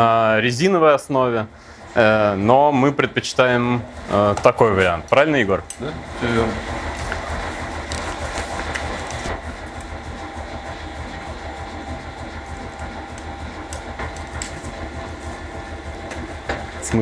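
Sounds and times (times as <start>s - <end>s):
printing press clattering: 0.3s - 17.0s.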